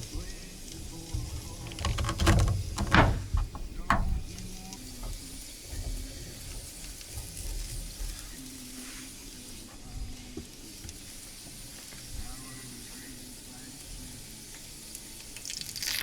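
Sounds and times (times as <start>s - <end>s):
food sizzling on griddle: 0.0s - 1.8s, 3.7s - 16.0s.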